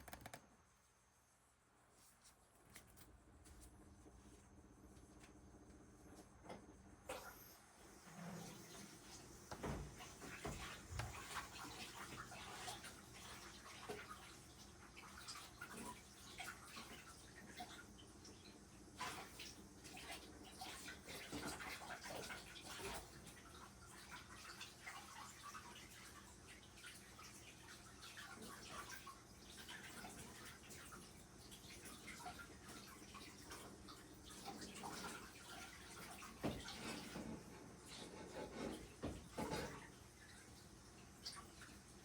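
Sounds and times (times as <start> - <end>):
tap water running and dripping: 4.9 - 42.0.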